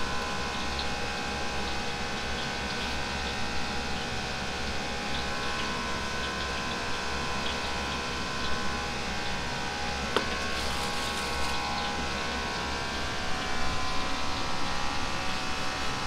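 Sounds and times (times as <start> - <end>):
kitchen machinery hum: 0.0 - 16.0.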